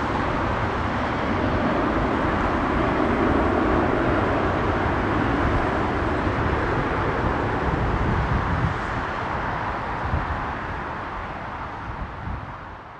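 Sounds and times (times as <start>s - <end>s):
jet engines rumbling: 0.0s - 12.9s.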